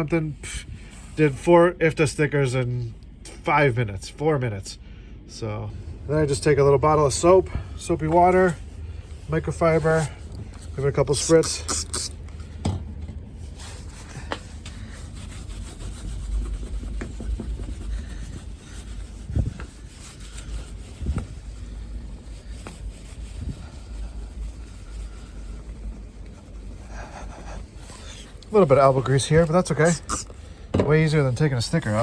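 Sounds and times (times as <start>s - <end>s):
low steady rumble: 0.0s - 32.0s
cloth scrubbing soapy surface: 6.1s - 32.0s.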